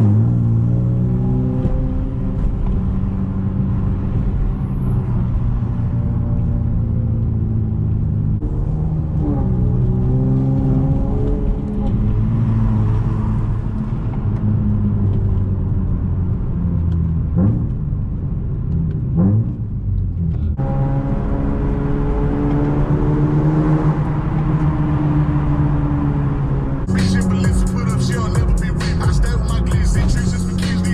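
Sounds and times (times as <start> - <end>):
car engine revving while driving: 0.0 - 30.9.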